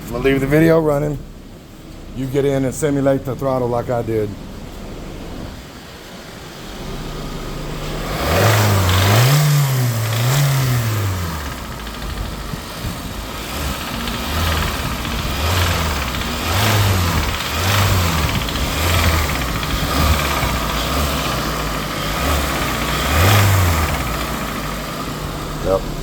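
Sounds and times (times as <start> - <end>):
car engine revving: 0.0 - 26.0
engine rattle: 0.0 - 26.0.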